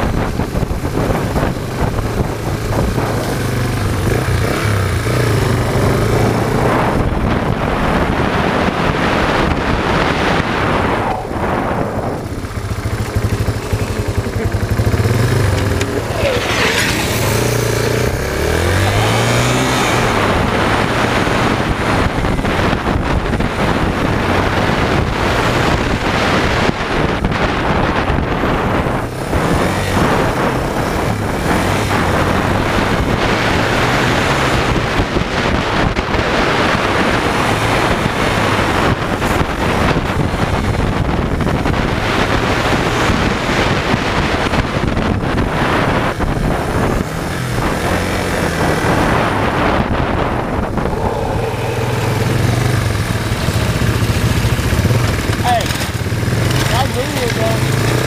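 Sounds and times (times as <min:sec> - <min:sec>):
dirt bike engine running: 0:00.0 - 0:58.0
wind rumble on microphone: 0:00.0 - 0:58.0.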